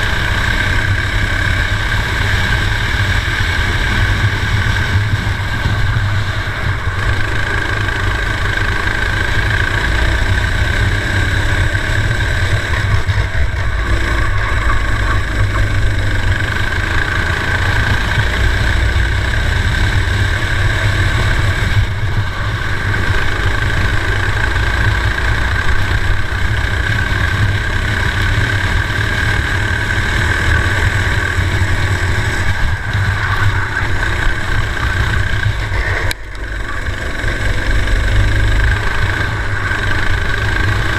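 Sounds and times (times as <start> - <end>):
kart engine running hard: 0.0 - 40.9.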